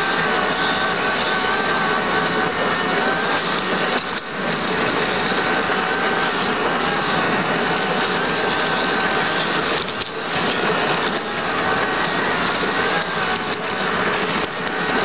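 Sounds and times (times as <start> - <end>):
model train motor whining: 0.0 - 15.0
wheels rattling on rails: 0.0 - 15.0.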